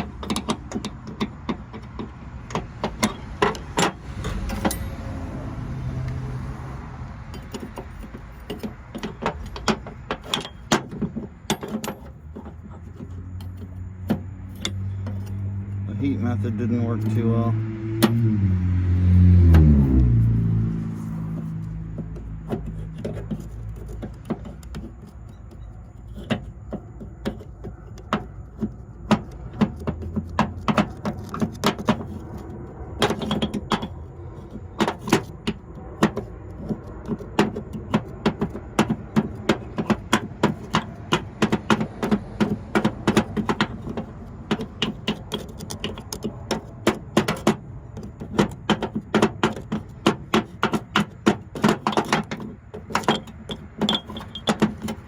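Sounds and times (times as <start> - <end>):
metal tool scraping and clicking: 0.0 - 5.1, 7.1 - 18.3, 19.5 - 55.0.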